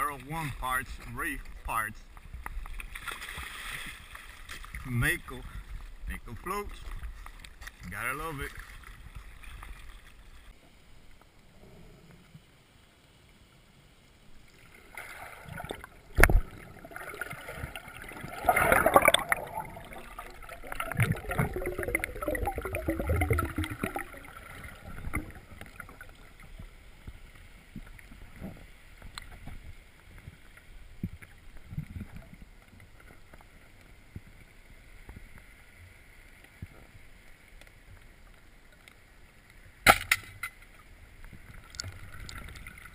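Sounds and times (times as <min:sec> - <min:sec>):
water splashing and bubbling: 0:00.0 - 0:10.8, 0:14.2 - 0:39.0, 0:39.7 - 0:42.9
faint underwater clicks: 0:00.4 - 0:42.9.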